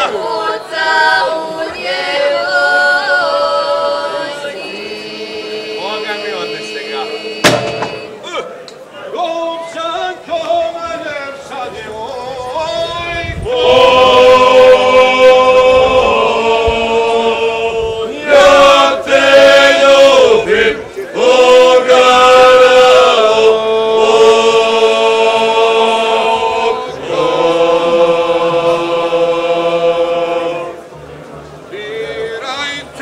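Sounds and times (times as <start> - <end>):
group of voices singing: 0.0 - 8.2, 11.4 - 31.0, 31.6 - 33.0
low voice singing: 0.0 - 8.2, 9.1 - 33.0.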